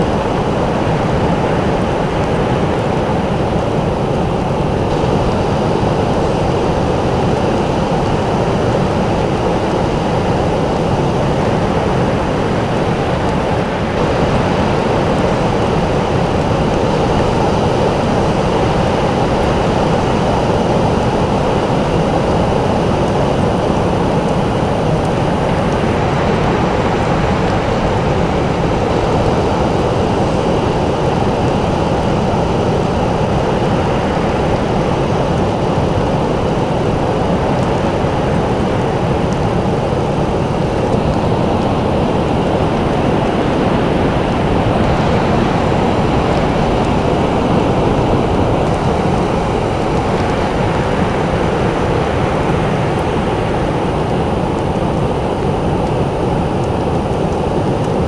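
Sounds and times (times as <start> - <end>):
ocean surf rushing: 0.0 - 58.0.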